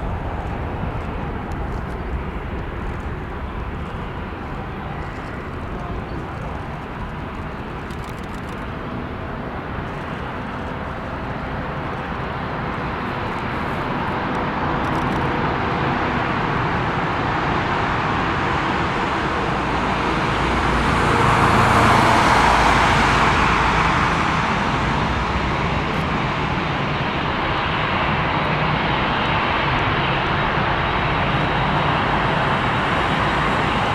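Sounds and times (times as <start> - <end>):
jet airliner engine roar: 0.0 - 33.9.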